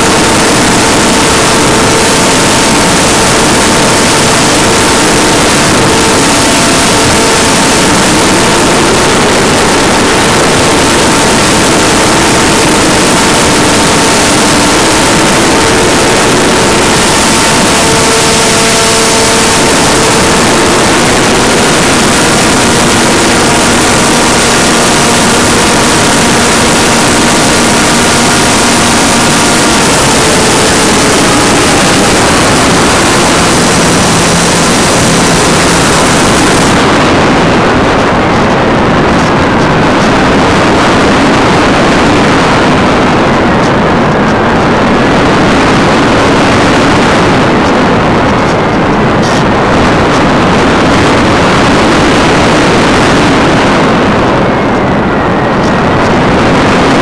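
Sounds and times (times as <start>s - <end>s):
airflow and propeller rush: 0.0s - 57.0s
electric motor whine: 0.0s - 57.0s.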